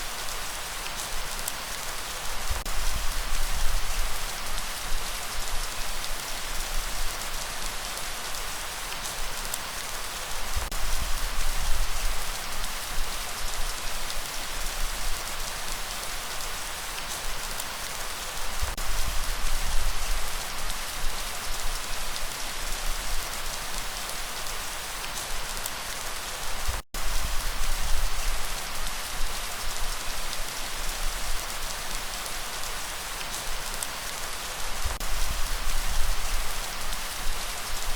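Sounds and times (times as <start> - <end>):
heavy rainfall: 0.0 - 37.9.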